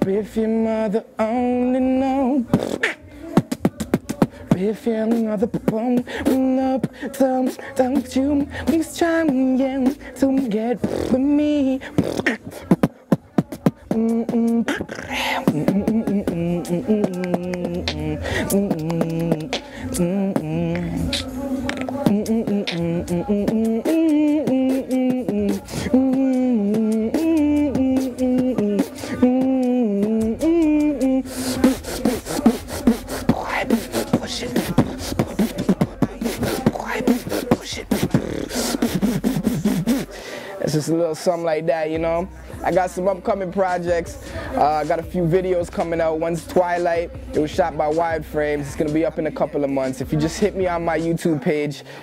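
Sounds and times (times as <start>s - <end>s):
man beatboxing: 0.0s - 52.0s
wordless pitched vocal line: 0.0s - 52.0s.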